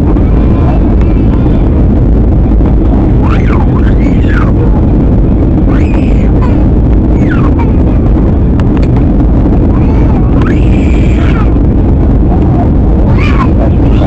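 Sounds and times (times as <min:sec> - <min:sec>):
airliner cabin rumble: 0:00.0 - 0:14.0
faint voices: 0:00.0 - 0:14.0.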